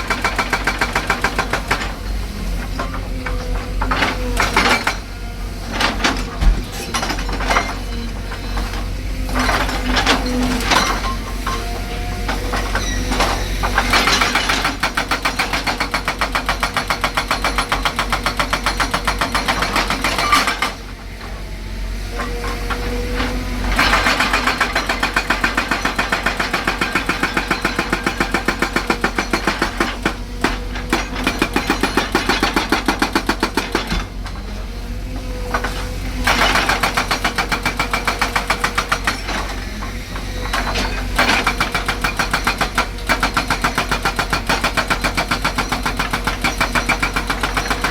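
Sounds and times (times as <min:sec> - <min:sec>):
hydraulic breaker hammering: 0:00.0 - 0:05.1, 0:05.7 - 0:20.8, 0:22.2 - 0:34.5, 0:35.2 - 0:47.9.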